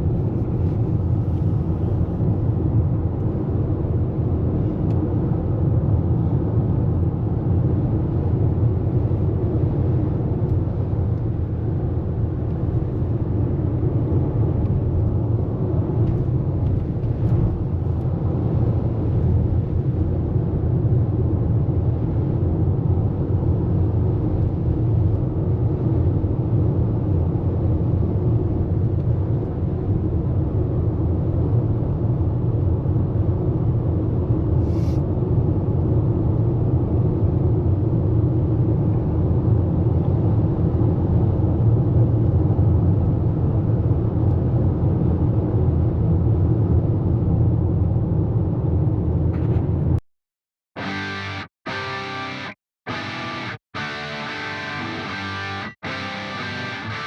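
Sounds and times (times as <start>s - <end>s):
road and engine rumble in car: 0.0s - 50.0s.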